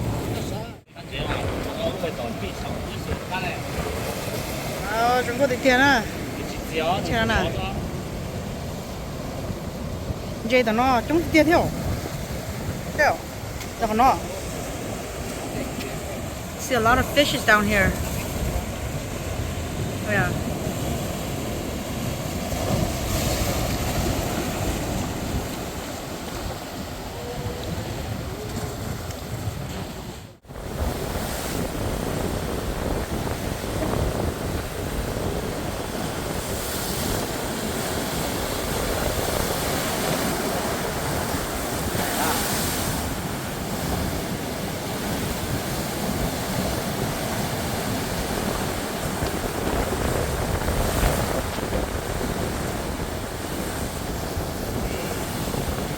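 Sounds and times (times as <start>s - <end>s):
ocean waves washing: 0.0s - 55.9s
wind rumbling on microphone: 0.0s - 55.9s.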